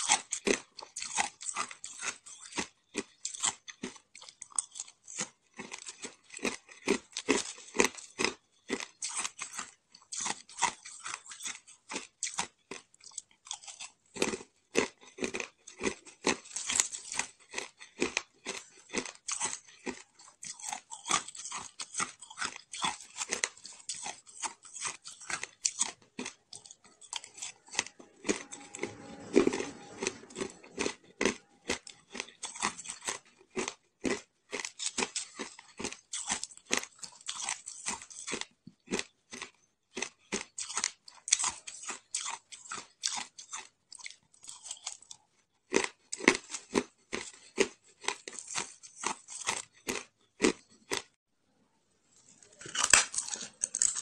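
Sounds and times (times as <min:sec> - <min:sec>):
ice being chewed: 0:00.0 - 0:51.2, 0:52.1 - 0:54.0.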